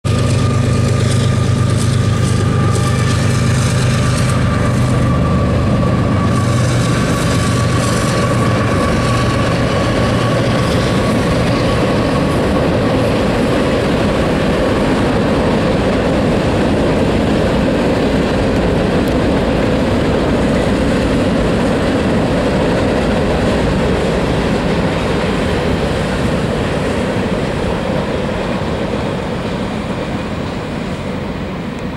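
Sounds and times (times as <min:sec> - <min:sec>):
diesel locomotive engine drone: 0:00.0 - 0:31.9
freight cars rumbling on rails: 0:00.0 - 0:31.9.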